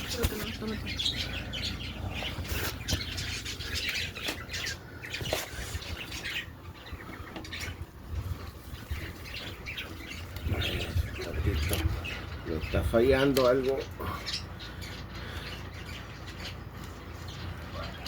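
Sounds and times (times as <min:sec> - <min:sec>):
birds chirping and squawking: 0:00.0 - 0:18.0.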